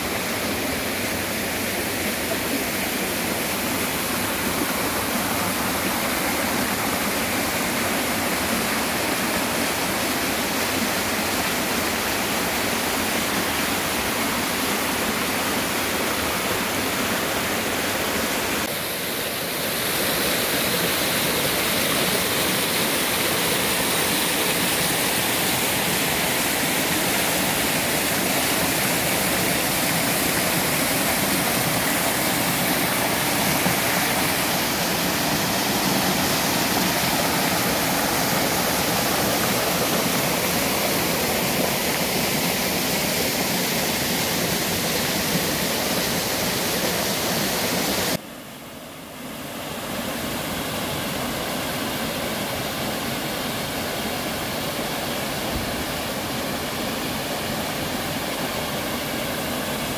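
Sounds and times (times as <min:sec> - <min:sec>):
stream cascading over rocks: 0:00.0 - 0:59.9.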